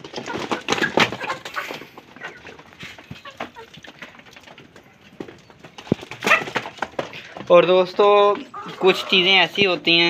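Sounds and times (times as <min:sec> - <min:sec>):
hens pecking: 0:00.0 - 0:10.0.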